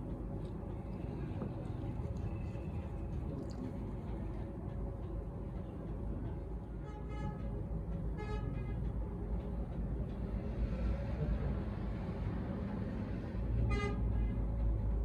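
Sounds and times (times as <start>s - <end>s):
steady low rumble: 0.0s - 13.6s.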